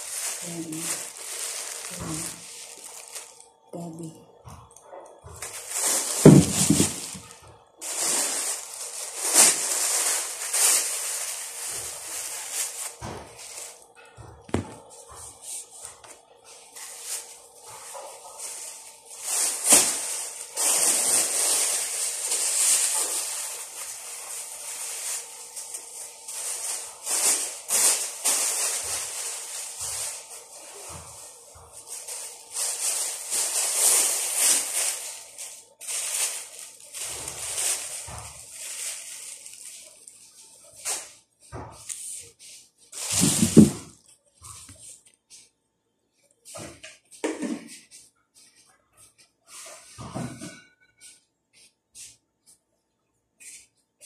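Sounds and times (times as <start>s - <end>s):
plastic bag crinkling: 0.0s - 45.2s.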